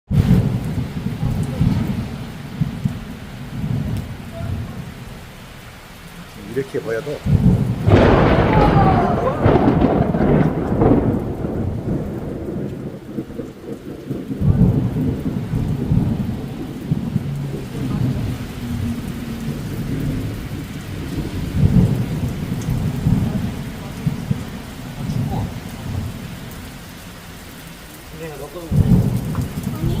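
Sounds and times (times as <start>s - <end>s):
rolling thunder: 0.1s - 5.4s, 6.5s - 27.4s, 28.4s - 30.0s
rain falling: 0.1s - 30.0s.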